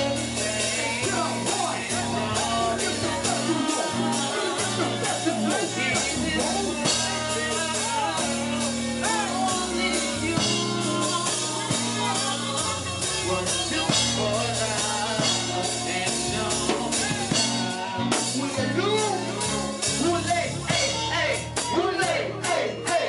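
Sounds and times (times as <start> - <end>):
bass line: 0.0 - 23.0
person singing into a microphone: 0.0 - 23.0.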